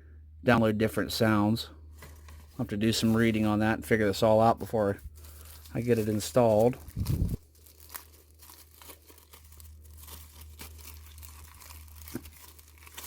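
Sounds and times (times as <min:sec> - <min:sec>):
low electrical hum: 0:00.0 - 0:13.0
packaging rustling and crinkling: 0:01.9 - 0:13.0.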